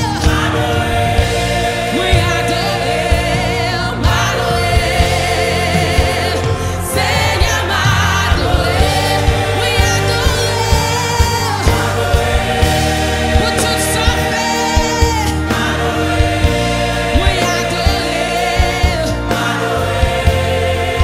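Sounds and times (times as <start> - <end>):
choir singing in harmony: 0.0 - 21.0
live band accompaniment: 0.0 - 21.0.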